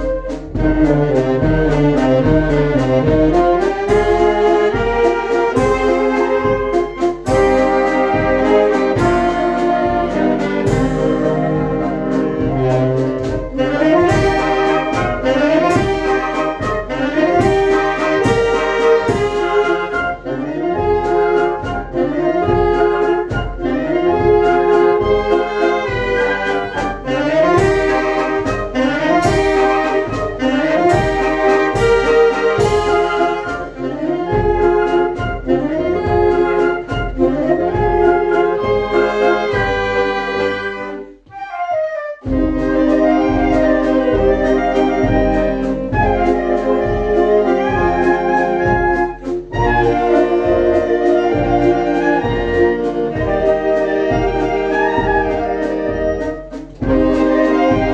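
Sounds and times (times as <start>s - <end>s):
brass band playing: 0.0s - 57.9s.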